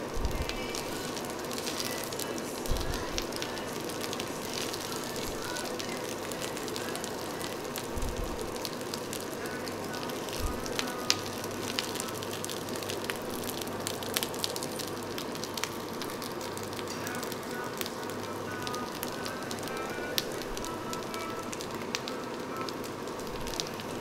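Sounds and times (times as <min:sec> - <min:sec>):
food sizzling on a grill: 0:00.0 - 0:24.0.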